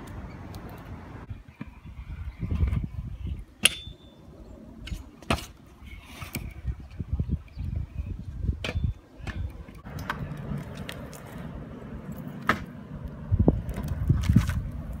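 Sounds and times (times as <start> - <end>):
scooter wheels rolling on concrete: 0.0 - 15.0.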